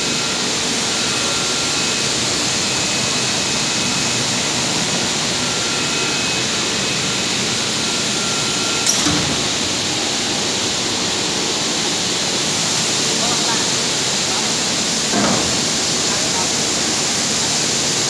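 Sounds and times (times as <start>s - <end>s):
cleaning machine rushing noise: 0.0s - 18.0s.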